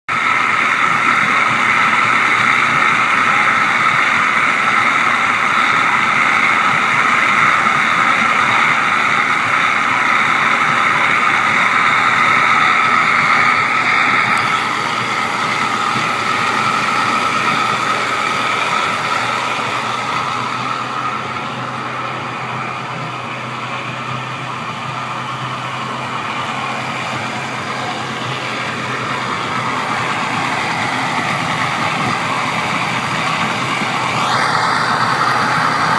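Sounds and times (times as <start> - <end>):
engine whine: 0.0 - 35.9
boat engine running: 0.1 - 35.9.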